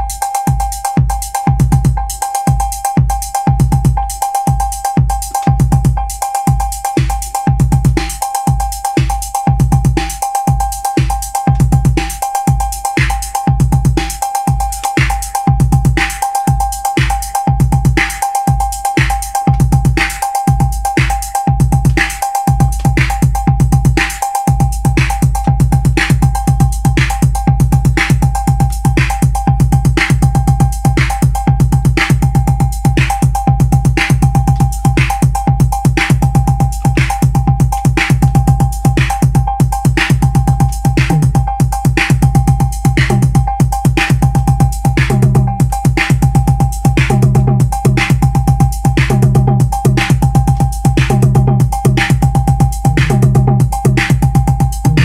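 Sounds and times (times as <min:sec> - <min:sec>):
drum machine electronic beat: 0:00.0 - 0:55.0.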